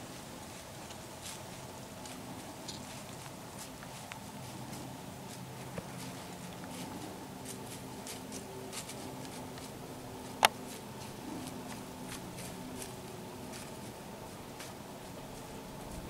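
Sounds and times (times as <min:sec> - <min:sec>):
deer walking through dry leaves: 0:00.0 - 0:16.0.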